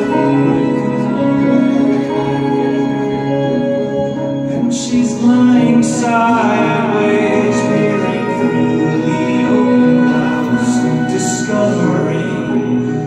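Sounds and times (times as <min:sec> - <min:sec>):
electric guitar: 0:00.0 - 0:13.0
keyboard chords: 0:00.0 - 0:13.0
person singing: 0:00.0 - 0:13.0.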